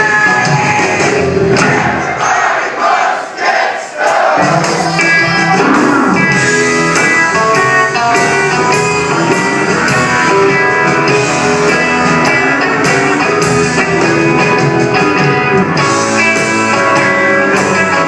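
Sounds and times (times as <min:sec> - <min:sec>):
electric guitar: 0:00.0 - 0:02.0, 0:04.4 - 0:18.0
country-rock band playing: 0:00.0 - 0:02.8, 0:04.0 - 0:18.0
steady drum beat: 0:00.0 - 0:18.0.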